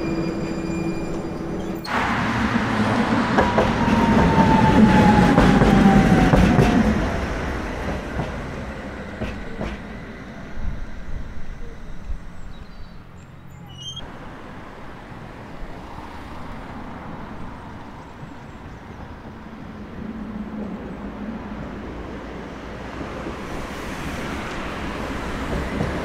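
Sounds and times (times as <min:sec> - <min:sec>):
street traffic hum: 0:00.0 - 0:26.0.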